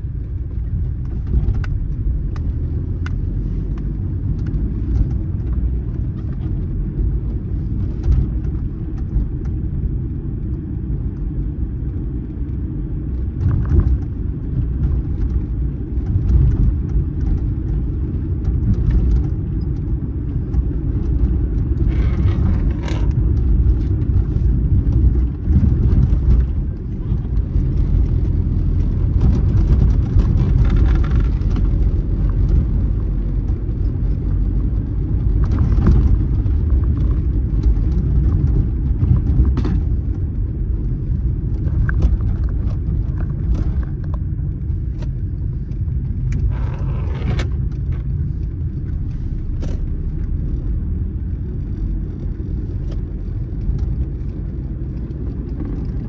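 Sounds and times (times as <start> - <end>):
road vehicle rumble: 0.0 - 56.0.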